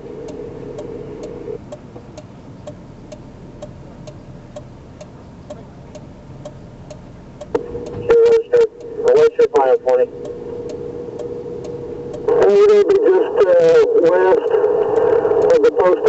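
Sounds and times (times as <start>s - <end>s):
low steady hum: 0.0s - 16.0s
turn signal clicking: 0.2s - 12.3s, 14.4s - 15.7s.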